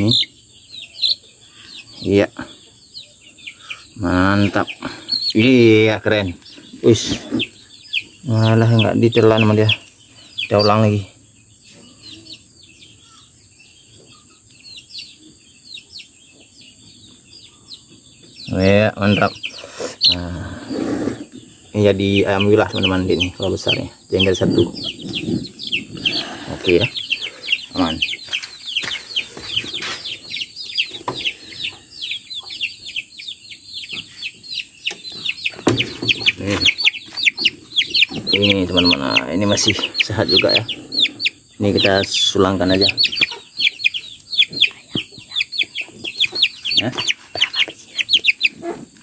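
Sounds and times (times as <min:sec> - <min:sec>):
chicks peeping: 0:00.0 - 0:49.0
steady high-pitched hiss: 0:00.0 - 0:49.0.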